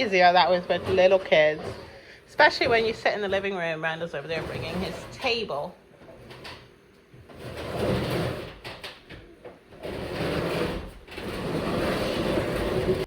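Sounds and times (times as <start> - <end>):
table scraping on floor: 0.0 - 9.0, 9.7 - 13.0.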